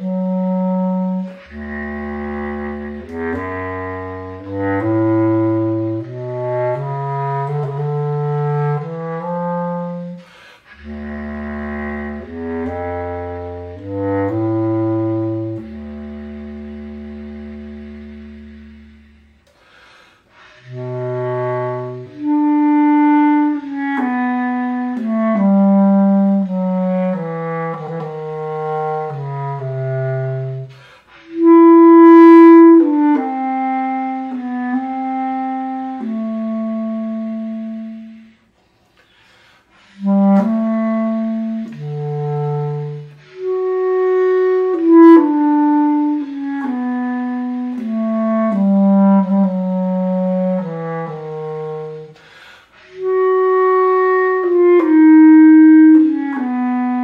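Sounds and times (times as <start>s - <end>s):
bass clarinet playing slow melody: 0.0s - 57.0s.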